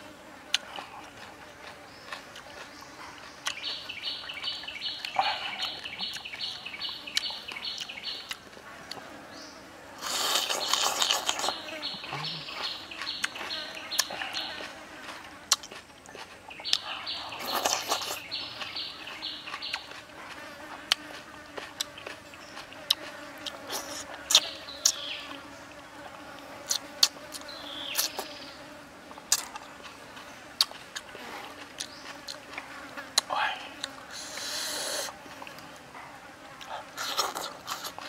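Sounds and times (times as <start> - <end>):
chewing with clicks and smacks: 0.5 - 9.2, 10.0 - 28.4, 29.1 - 38.0.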